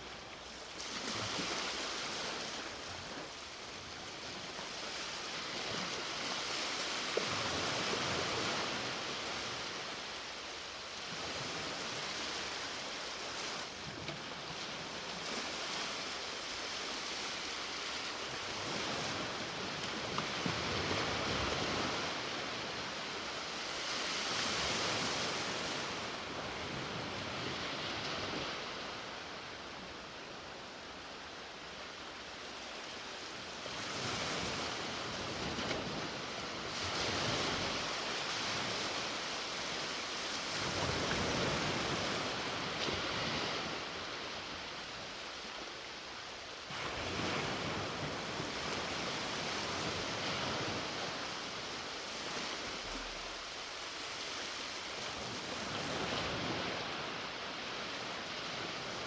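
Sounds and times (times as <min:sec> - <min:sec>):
waves washing onto beach: 0:00.0 - 0:59.0.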